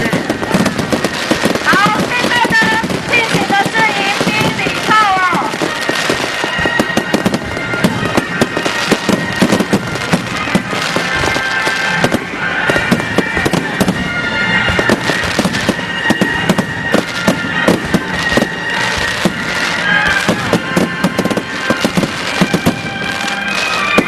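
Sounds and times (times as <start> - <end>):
fireworks bangs and crackles: 0.0 - 24.0
shrill firework whistles: 0.0 - 24.0.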